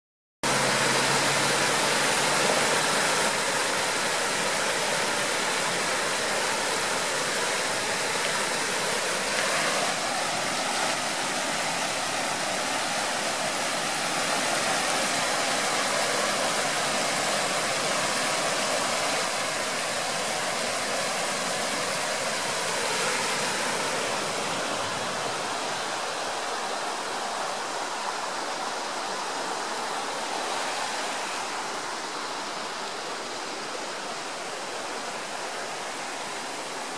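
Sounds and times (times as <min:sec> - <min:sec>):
river rushing over rocks: 0:00.4 - 0:36.9.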